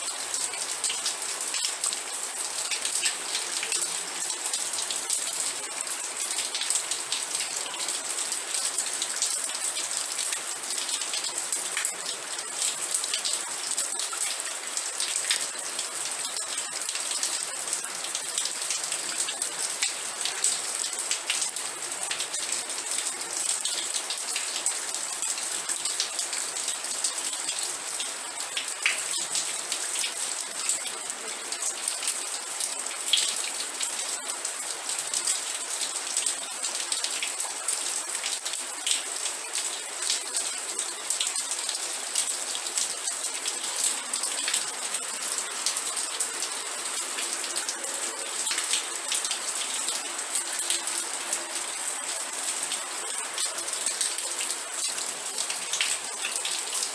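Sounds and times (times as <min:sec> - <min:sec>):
rain drops on a hard surface: 0:00.0 - 0:56.9.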